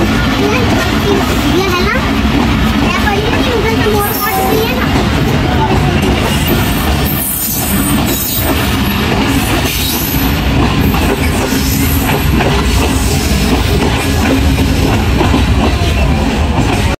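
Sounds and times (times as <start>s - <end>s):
passenger train rumbling: 0.0s - 17.0s.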